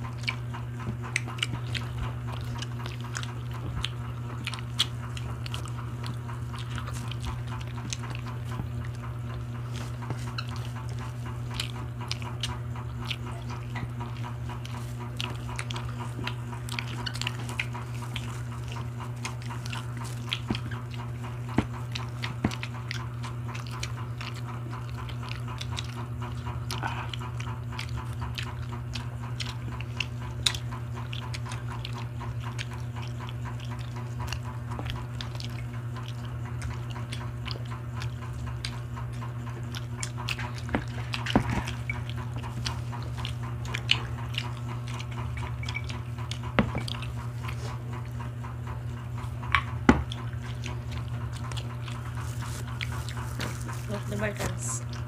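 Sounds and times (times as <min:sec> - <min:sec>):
people chewing food: 0:00.0 - 0:55.0
steady low hum: 0:00.0 - 0:55.0
wet mouth noises: 0:00.0 - 0:55.0.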